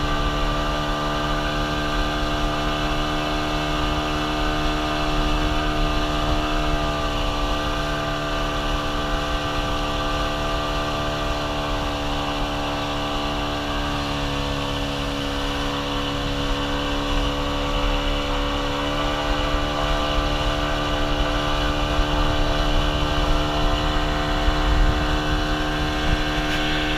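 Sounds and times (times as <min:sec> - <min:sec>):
motorboat engine running: 0:00.0 - 0:26.9.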